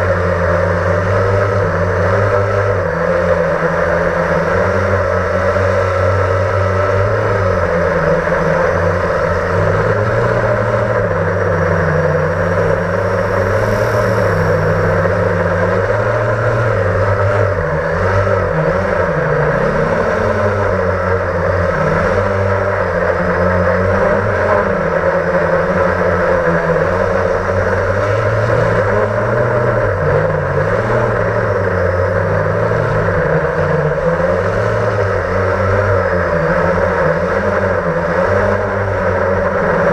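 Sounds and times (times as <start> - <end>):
quadcopter motors buzzing: 1.0 - 39.0.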